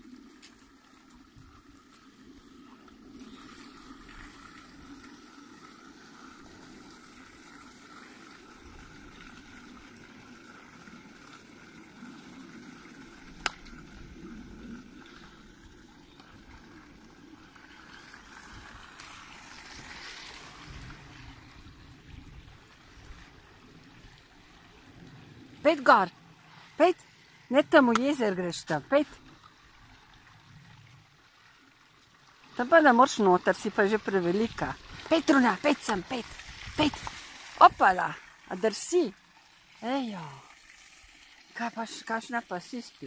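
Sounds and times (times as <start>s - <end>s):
stream trickling over stones: 0.0s - 43.0s.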